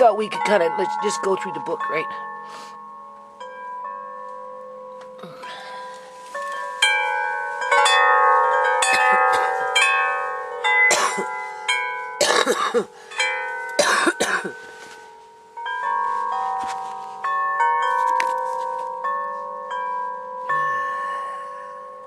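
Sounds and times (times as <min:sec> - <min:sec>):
chimes ringing: 0:00.0 - 0:22.0.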